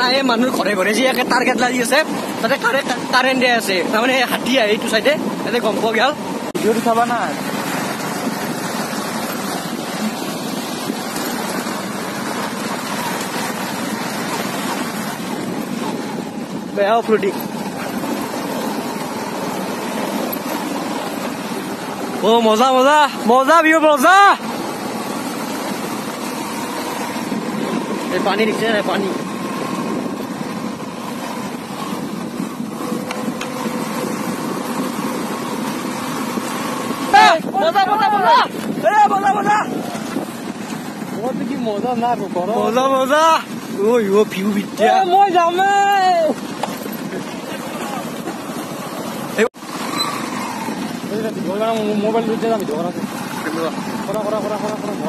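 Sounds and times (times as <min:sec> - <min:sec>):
motorcycle engine: 0:00.0 - 0:37.6, 0:38.6 - 0:55.0
wind rushing over microphone: 0:04.4 - 0:22.8, 0:24.4 - 0:55.0.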